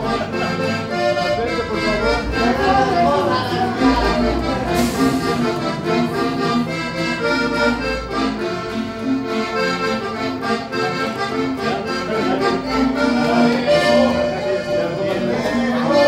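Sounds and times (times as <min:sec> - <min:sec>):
accordion music: 0:00.0 - 0:16.0.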